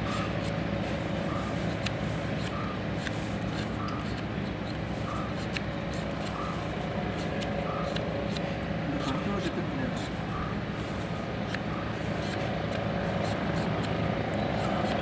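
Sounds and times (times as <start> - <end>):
steady low hum: 0.0 - 15.0
knife scraping mango skin: 1.3 - 10.2, 10.9 - 15.0.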